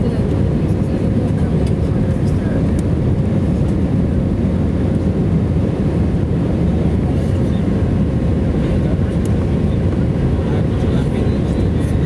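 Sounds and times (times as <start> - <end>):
aircraft cabin engine noise: 0.0 - 12.0.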